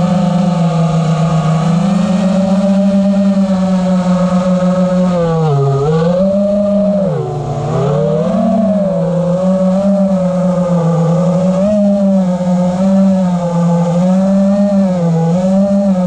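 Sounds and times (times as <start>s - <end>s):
drone motors buzzing whine: 0.0s - 16.0s.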